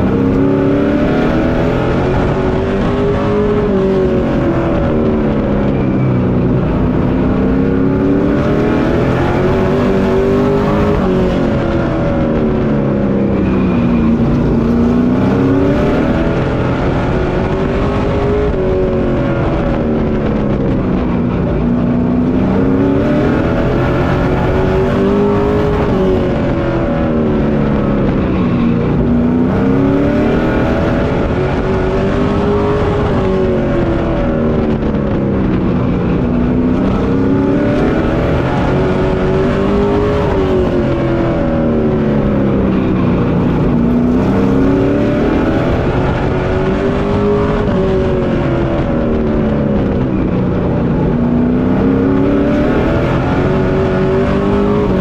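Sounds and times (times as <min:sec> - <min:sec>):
race truck engine: 0:00.0 - 0:55.0.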